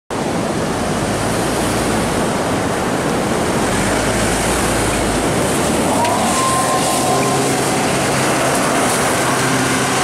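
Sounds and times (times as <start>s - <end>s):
ocean surf rushing: 0.2s - 10.0s.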